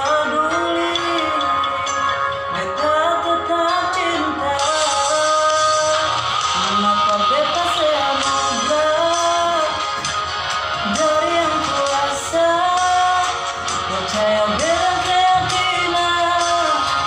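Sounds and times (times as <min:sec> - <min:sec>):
man singing a ballad: 0:00.0 - 0:10.1, 0:10.8 - 0:17.0.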